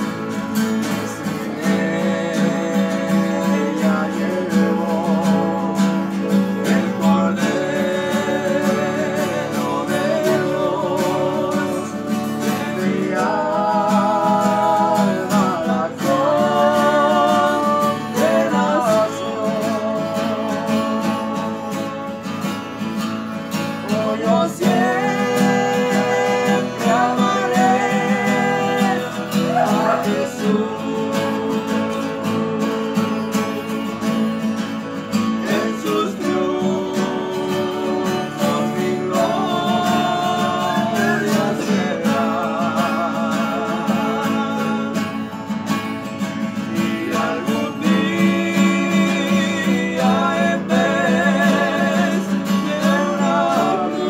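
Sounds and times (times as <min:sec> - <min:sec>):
men singing: 0:00.0 - 0:54.0
strummed acoustic guitars: 0:00.0 - 0:54.0.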